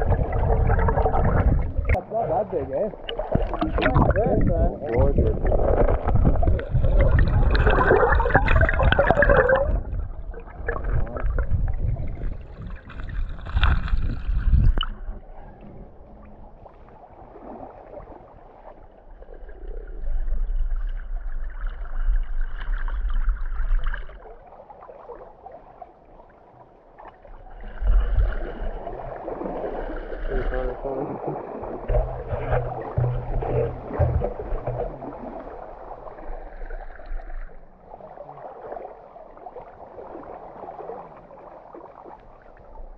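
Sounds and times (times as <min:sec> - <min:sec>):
low rumble on microphone: 0:00.0 - 0:23.8, 0:27.4 - 0:39.6
water gurgling and sloshing: 0:00.0 - 0:42.9.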